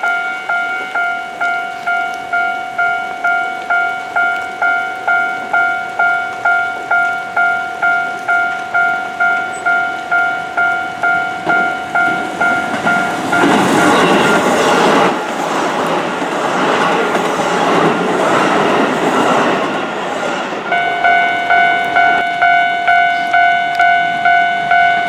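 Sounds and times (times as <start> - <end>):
level-crossing warning bell dinging: 0.0 - 25.0
train wheel and rail noise: 0.0 - 25.0.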